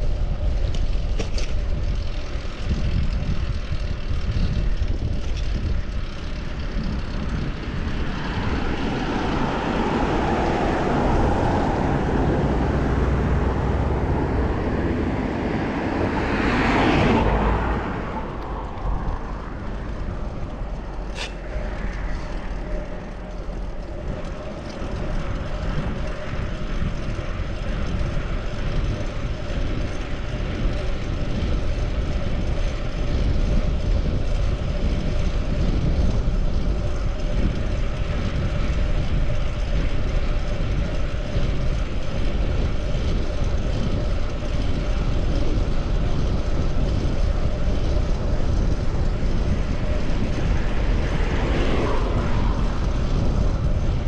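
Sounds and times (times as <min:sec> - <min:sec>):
wind rumble on microphone: 0:00.0 - 0:54.0
motor vehicle passing: 0:06.1 - 0:33.9, 0:37.1 - 0:54.0.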